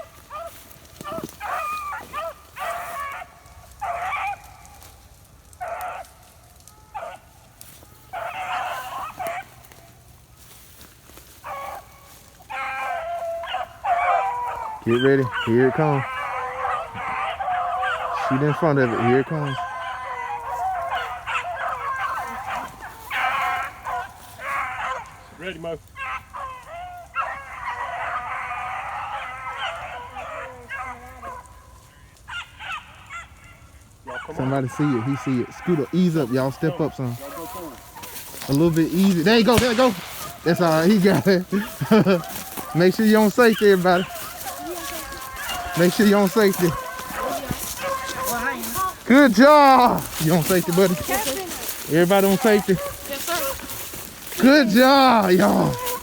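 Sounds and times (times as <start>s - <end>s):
beagles baying: 0.0s - 56.0s.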